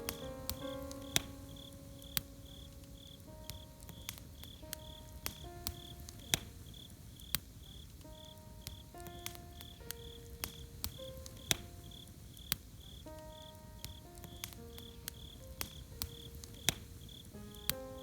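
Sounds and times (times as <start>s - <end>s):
campfire crackling and popping: 0.0s - 18.0s
cricket chirping: 0.0s - 18.0s
soft held music notes: 0.0s - 18.0s.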